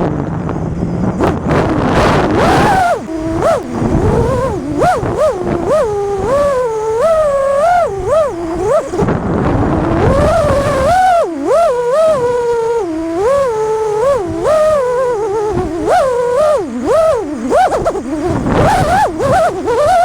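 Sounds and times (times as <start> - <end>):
rush of wind noise: 0.0 - 20.0
quadcopter motors whining: 0.7 - 20.0.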